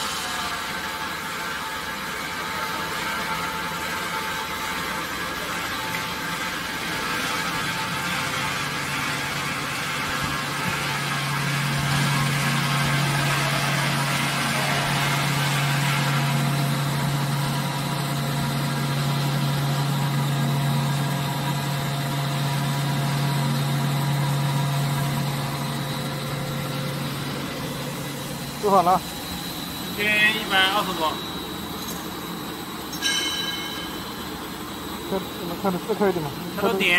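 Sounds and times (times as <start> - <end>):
electric mixer drive humming: 0.7 - 36.9.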